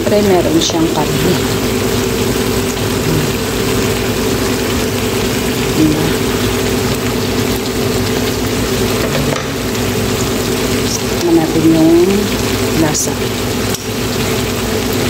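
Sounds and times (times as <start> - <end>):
vegetables and meat sizzling: 0.0 - 15.0.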